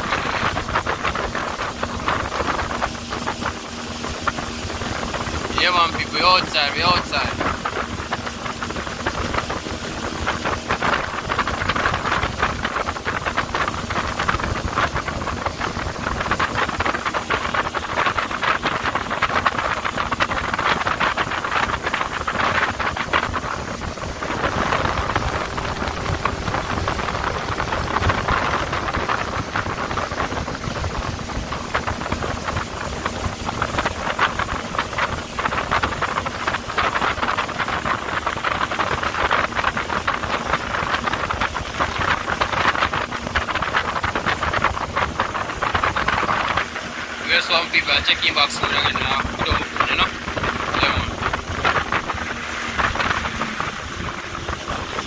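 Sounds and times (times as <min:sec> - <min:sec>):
boat engine hum: 0:00.0 - 0:55.0
rushing wind and water: 0:00.0 - 0:55.0.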